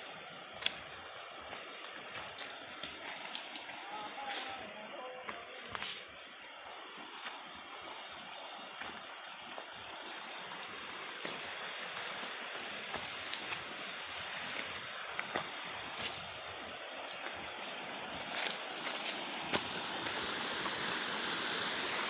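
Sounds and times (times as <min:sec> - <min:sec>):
waterfall rushing water: 0:00.0 - 0:22.0.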